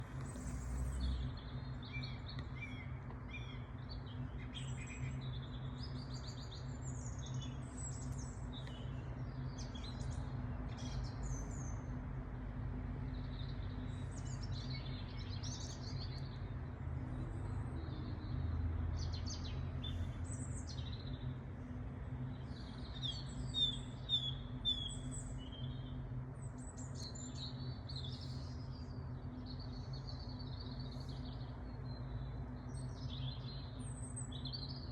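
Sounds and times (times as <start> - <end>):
songbirds singing and chirping: 0.0 - 34.9
steady low hum: 0.0 - 34.9.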